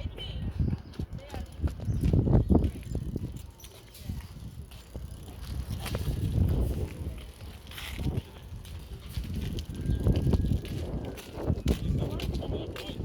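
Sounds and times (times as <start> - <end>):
bicycle rolling: 0.9 - 13.0.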